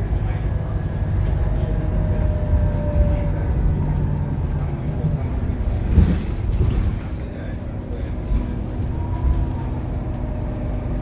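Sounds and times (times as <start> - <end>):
bus engine low rumble: 0.0 - 11.0.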